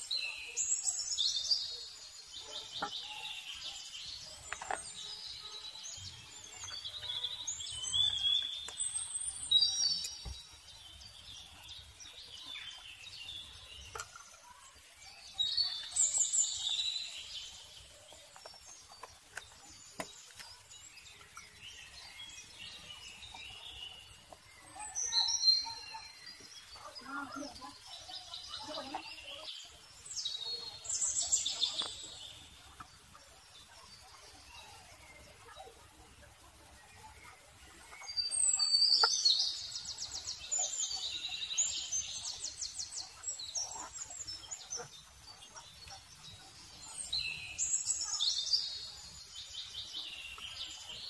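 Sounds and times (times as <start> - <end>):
birds chirping and singing: 0.0 - 51.0.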